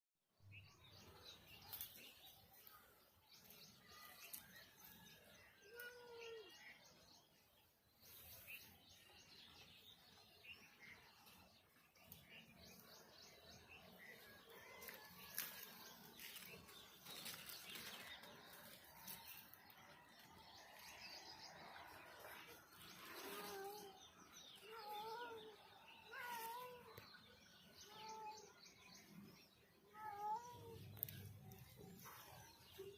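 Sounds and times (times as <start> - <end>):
faint birds chirping: 0.3 - 32.9.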